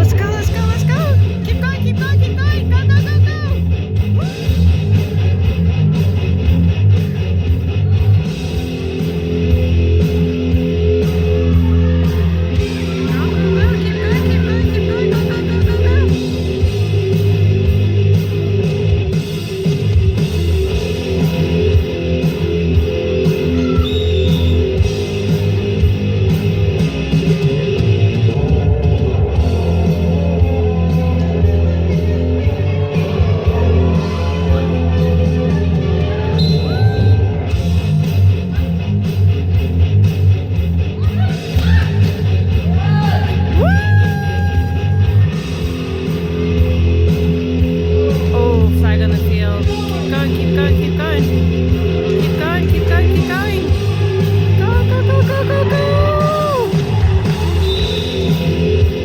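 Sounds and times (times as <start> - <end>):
heavy bass: 0.0 - 59.0
instrumental rock music with guitar: 0.0 - 59.0.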